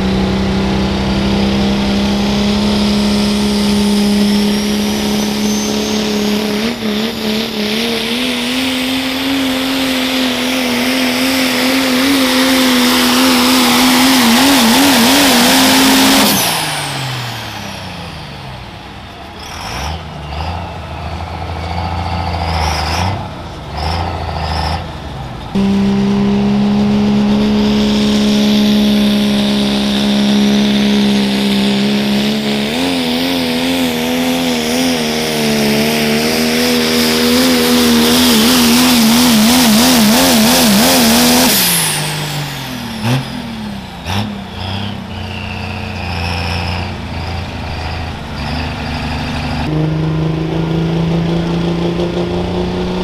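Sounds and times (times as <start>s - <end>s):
diesel truck engine at full throttle: 0.0s - 53.0s
engine revs and blips: 0.0s - 53.0s.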